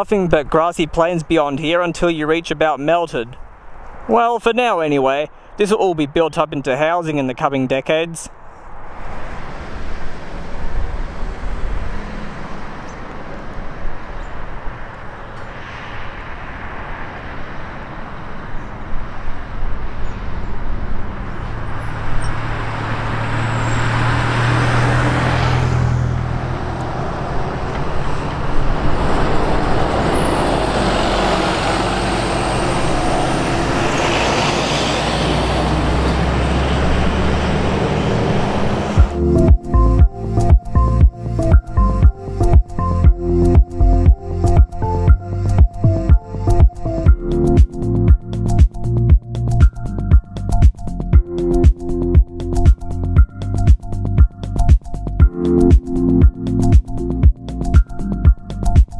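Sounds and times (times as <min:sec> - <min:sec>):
traffic engine drone: 0:00.0 - 0:58.9.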